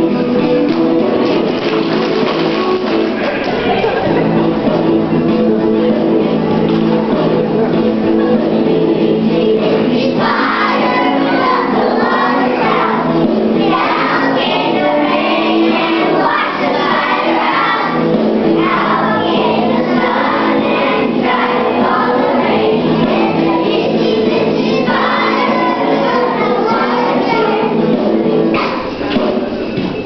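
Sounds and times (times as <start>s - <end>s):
children singing: 0.0s - 29.5s
music: 0.0s - 30.0s.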